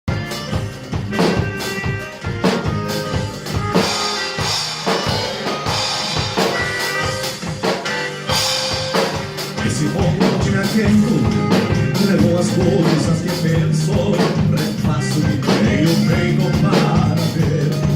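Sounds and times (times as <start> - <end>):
drum kit beat: 0.0 - 17.9
live band playing: 0.0 - 17.9.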